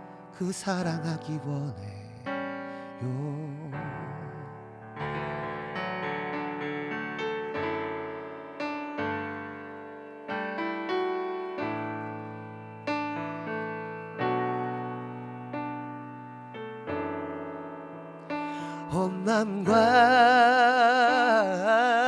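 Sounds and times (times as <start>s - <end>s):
piano keyboard playing slow chords: 0.0s - 22.0s.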